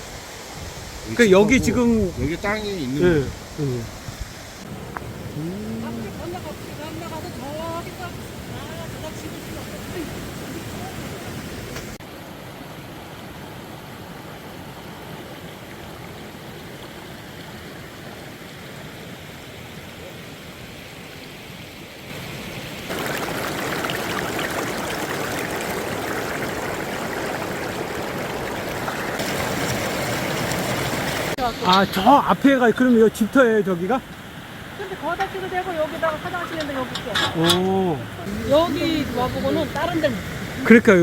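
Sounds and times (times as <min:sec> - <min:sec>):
stream rushing: 0:00.0 - 0:41.0.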